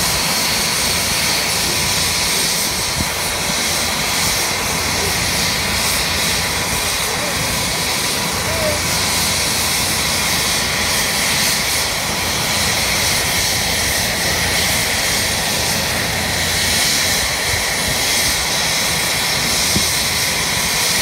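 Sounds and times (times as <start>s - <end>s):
helicopter engines and rotor whine: 0.0s - 21.0s.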